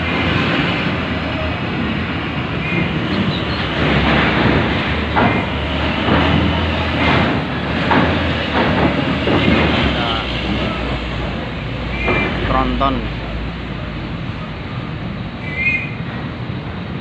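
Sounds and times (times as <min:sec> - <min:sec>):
truck diesel engine rumble: 0:00.0 - 0:17.0.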